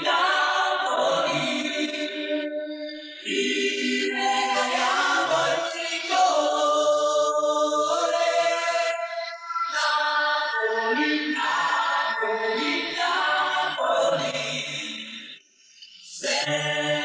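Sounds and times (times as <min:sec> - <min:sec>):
wordless choral singing: 0:00.0 - 0:17.0.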